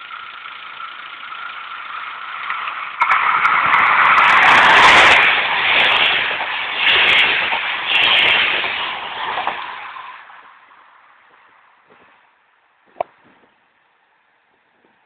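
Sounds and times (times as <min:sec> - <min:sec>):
rail vehicle passing: 0:00.0 - 0:12.6.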